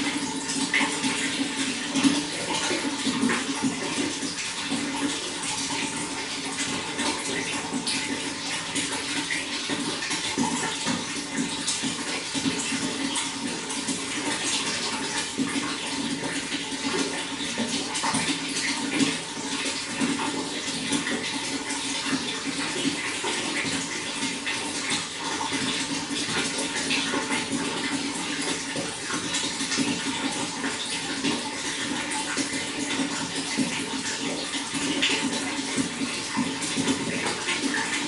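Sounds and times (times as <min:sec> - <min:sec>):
running water flowing: 0:00.0 - 0:38.0.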